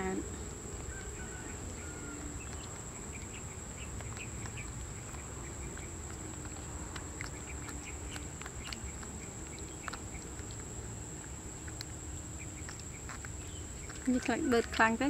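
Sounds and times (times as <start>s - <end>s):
high insect drone: 0.0s - 15.0s
baby monkey suckling from bottle: 0.1s - 15.0s.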